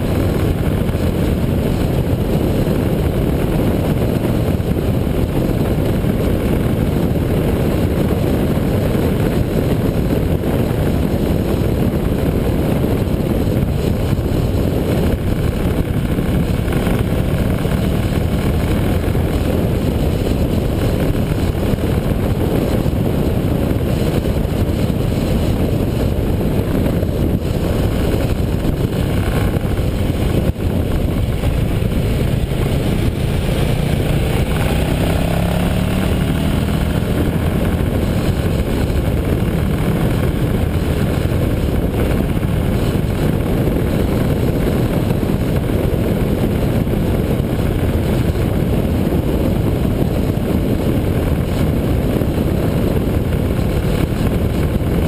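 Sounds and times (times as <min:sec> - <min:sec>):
motorcycle engine: 0:00.0 - 0:55.0
wind rush on microphone: 0:00.0 - 0:55.0.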